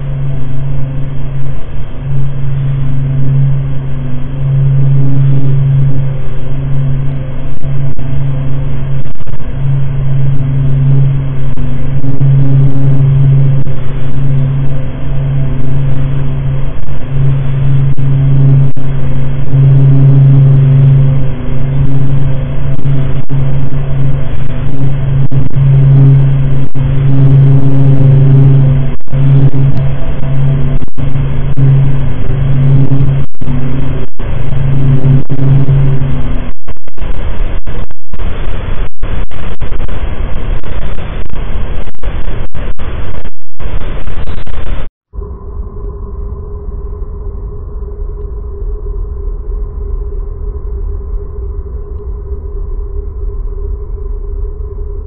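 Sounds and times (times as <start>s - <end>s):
low rumbling drone: 0.0s - 55.0s.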